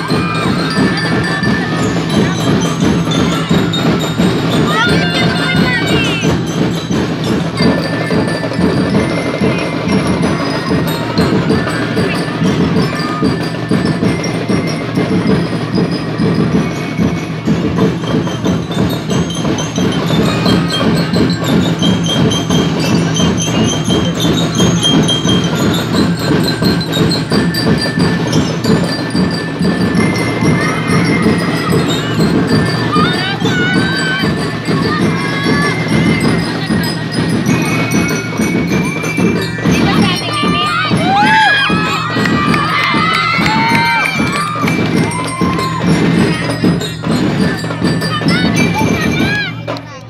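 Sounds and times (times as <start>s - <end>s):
bell lyre melody: 0.0s - 49.8s
marching drums beat: 0.0s - 50.0s.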